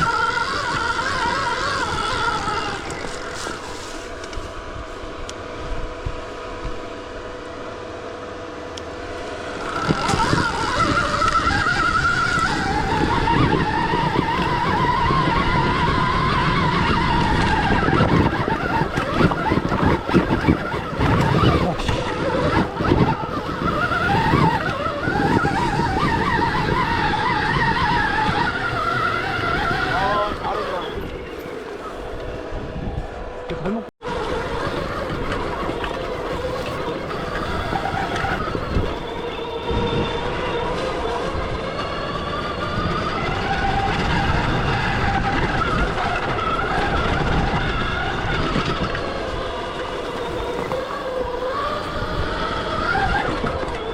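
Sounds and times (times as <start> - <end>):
electric motor whining: 0.0 - 53.9
tyres rumbling on rough ground: 0.0 - 53.9.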